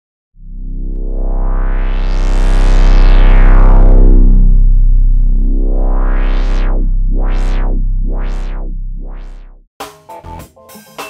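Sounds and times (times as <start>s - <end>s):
low synthesizer drone with filter sweep: 0.3s - 9.7s.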